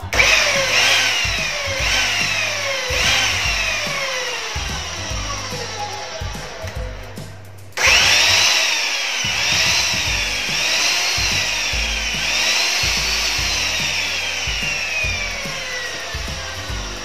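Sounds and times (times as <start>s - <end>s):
electric saw motor whining: 0.0s - 17.0s
saw blade winding down: 0.0s - 17.0s.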